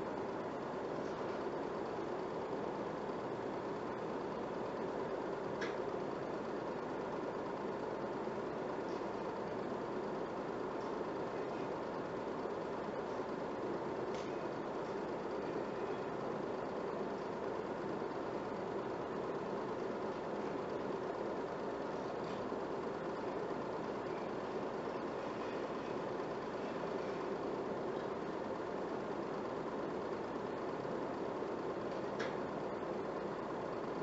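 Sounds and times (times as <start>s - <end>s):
film projector running: 0.0s - 34.0s.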